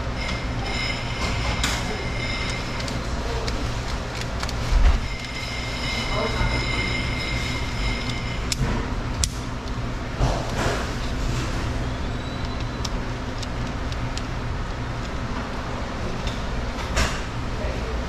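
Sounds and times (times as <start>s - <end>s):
low machinery hum: 0.0s - 18.0s.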